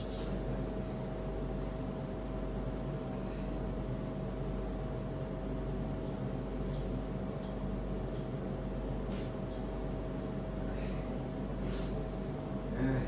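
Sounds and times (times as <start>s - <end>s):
mechanical hum with whine: 0.0s - 13.0s.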